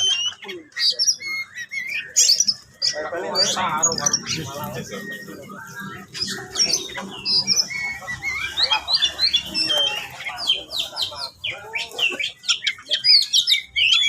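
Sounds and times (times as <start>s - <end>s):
bird singing whistles and chirps: 0.0s - 14.0s.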